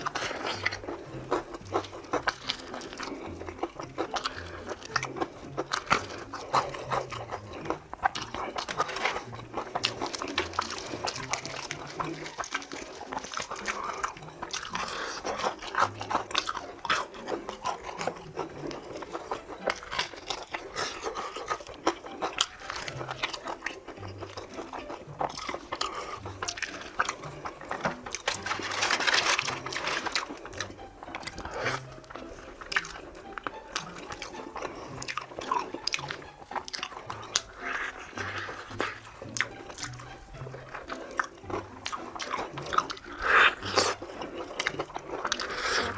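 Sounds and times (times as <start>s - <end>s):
crunching and chewing fried chicken: 0.0s - 45.9s.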